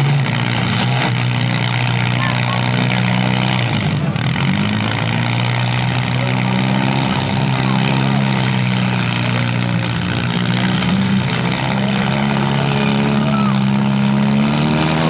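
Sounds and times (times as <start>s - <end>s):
car engines running loudly: 0.0s - 15.0s.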